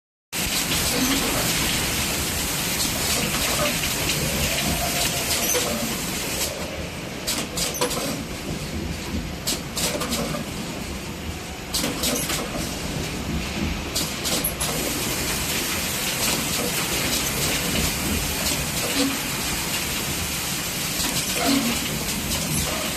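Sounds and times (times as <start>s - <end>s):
machine hissing and rumbling: 0.4s - 22.9s.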